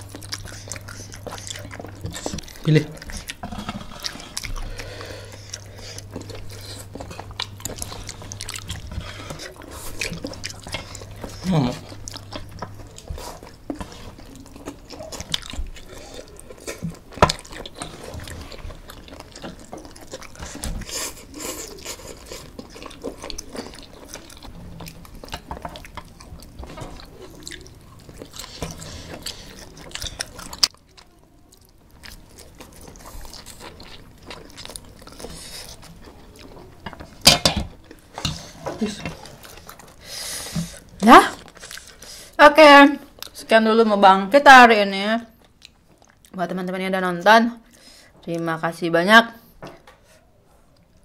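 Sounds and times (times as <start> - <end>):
chewing and crunching food: 0.0 - 43.6, 45.2 - 48.5.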